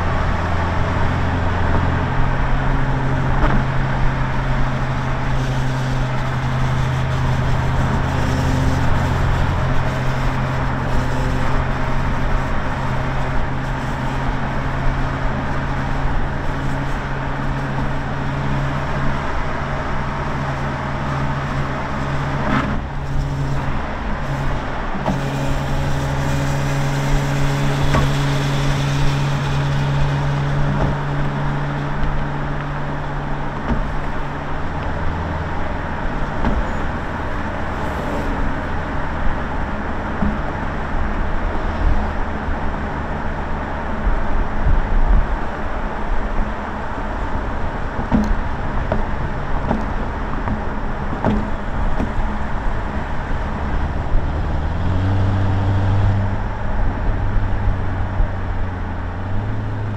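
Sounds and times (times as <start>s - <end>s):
car engine cruising: 0.0s - 59.9s
wind and road noise: 0.0s - 59.9s.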